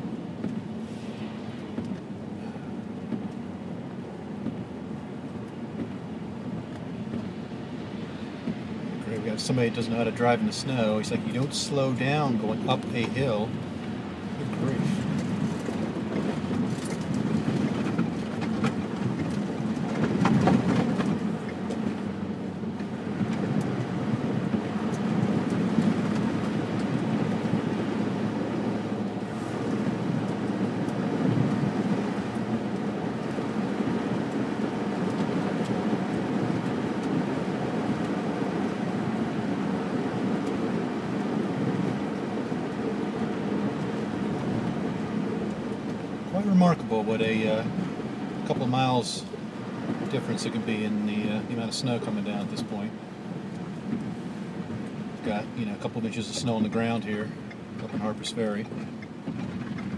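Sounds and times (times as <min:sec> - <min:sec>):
tyres on snowy road: 0:00.0 - 0:59.9
car engine running: 0:08.4 - 0:59.9.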